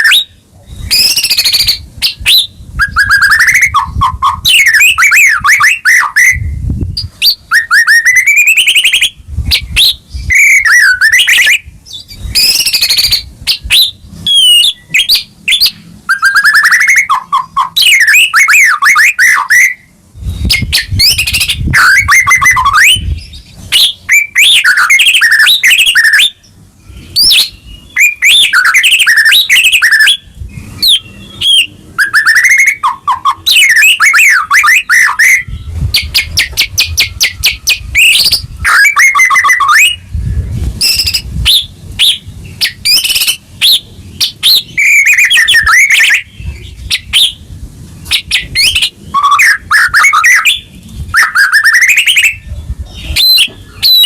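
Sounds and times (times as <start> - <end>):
bird singing whistles and trills: 0.0 - 54.0.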